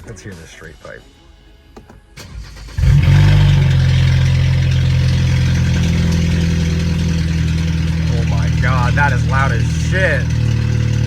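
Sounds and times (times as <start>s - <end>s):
car engine starting and idling: 1.8s - 11.0s.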